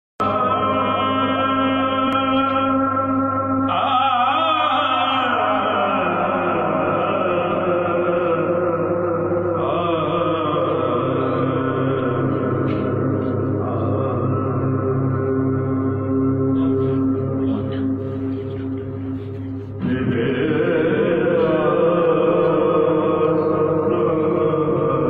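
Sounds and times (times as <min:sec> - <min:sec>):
man singing through a microphone: 0:00.2 - 0:15.3, 0:19.8 - 0:25.0.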